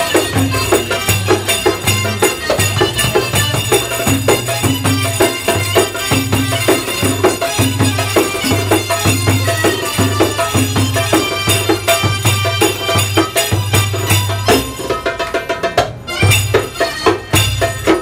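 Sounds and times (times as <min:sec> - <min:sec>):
frame drums and tambourine: 0:00.0 - 0:18.0.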